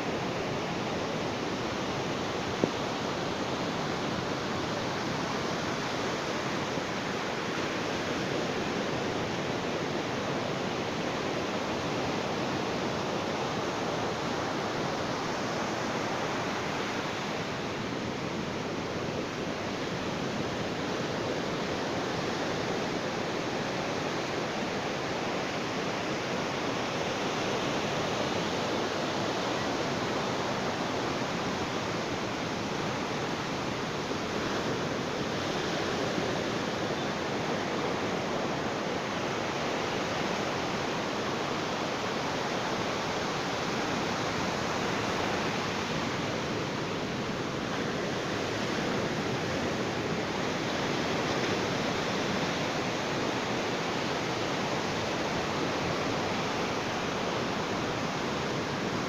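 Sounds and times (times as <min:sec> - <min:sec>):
sea waves washing on beach: 0:00.0 - 0:59.0.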